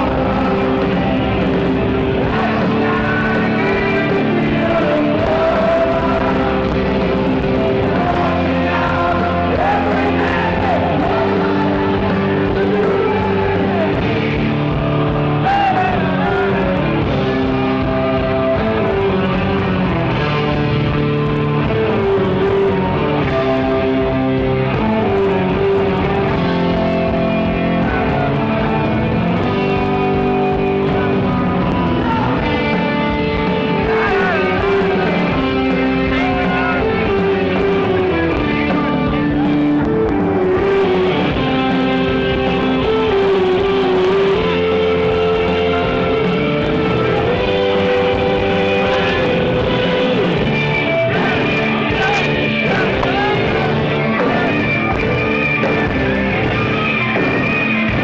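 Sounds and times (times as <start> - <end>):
person singing: 0.0 - 19.6, 21.1 - 58.0
distorted electric guitar: 0.0 - 58.0
live hard rock band: 0.0 - 58.0.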